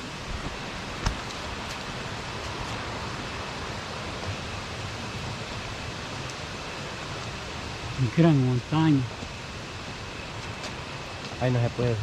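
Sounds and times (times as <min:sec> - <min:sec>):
steady rushing outdoor noise: 0:00.0 - 0:12.0.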